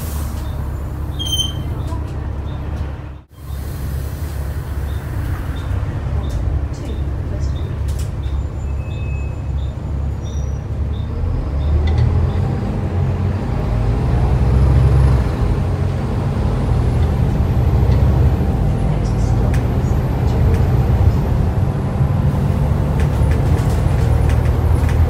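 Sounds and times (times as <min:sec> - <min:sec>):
bus diesel engine accelerating: 0:00.0 - 0:25.0.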